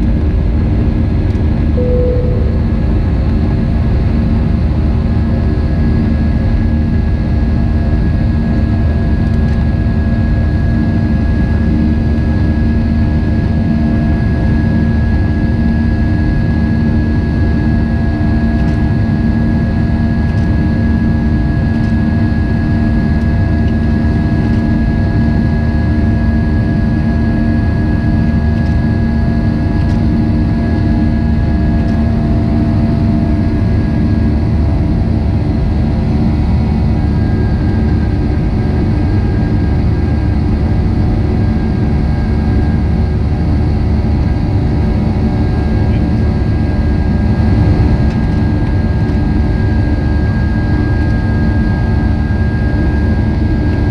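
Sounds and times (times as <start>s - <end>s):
high engine whine: 0.0s - 53.9s
jet engine drone in cabin: 0.0s - 53.9s.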